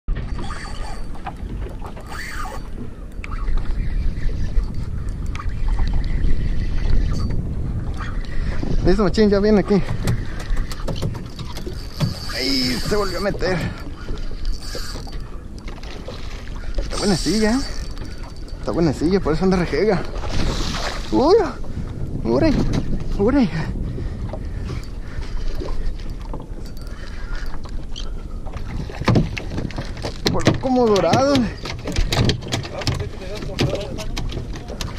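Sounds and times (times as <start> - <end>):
water noise: 0.1 - 34.9
wind rumbling on microphone: 0.1 - 34.9.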